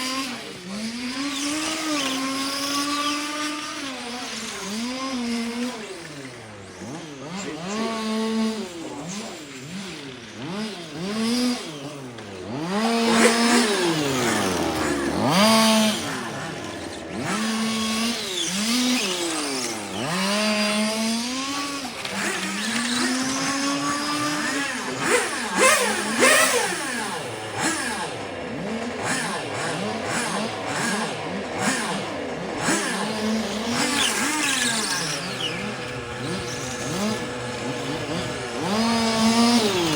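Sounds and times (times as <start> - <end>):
small engines revving: 0.0 - 39.9.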